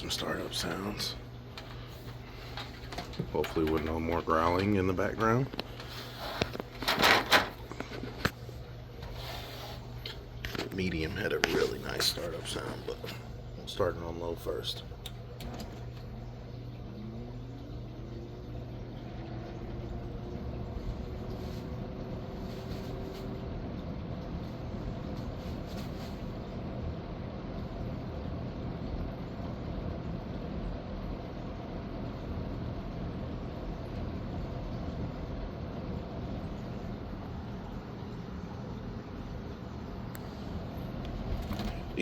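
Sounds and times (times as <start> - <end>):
fan motor whine: 0.0 - 42.0.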